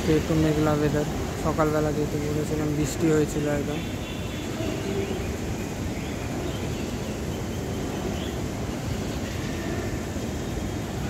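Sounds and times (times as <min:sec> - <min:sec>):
low rumble of city traffic: 0:00.0 - 0:11.0.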